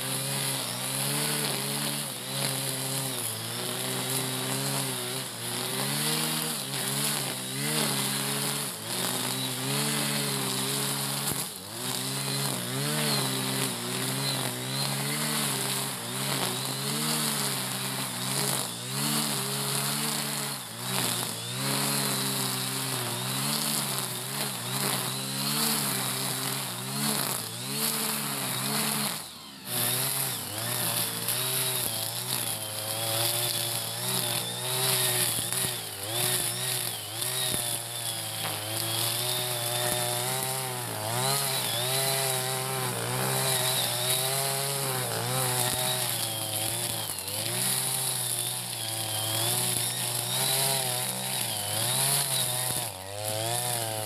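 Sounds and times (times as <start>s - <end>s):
brush cutter cutting grass: 0.0s - 54.0s.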